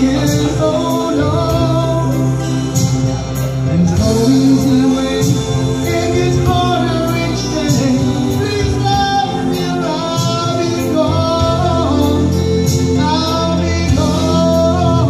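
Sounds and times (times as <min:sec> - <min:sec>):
backing track with soft beat: 0:00.0 - 0:15.0
man singing a ballad: 0:00.0 - 0:15.0.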